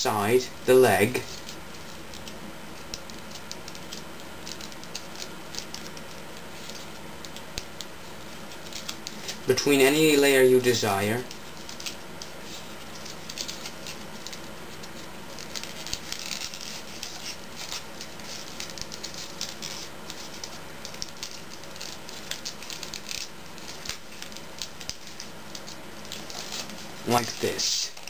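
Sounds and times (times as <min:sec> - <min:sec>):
faint steady hum: 0:00.0 - 0:28.0
paper crinkling and crackling: 0:00.9 - 0:28.0.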